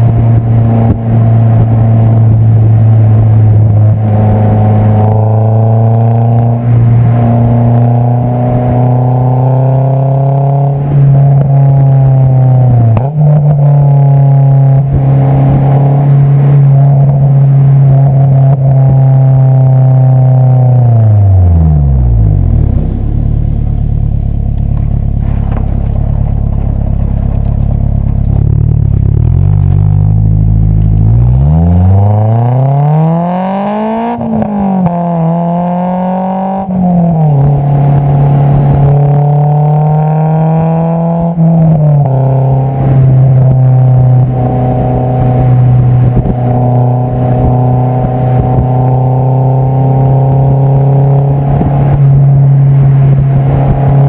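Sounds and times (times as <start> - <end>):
car engine revving and shifting: 0.0 - 54.0.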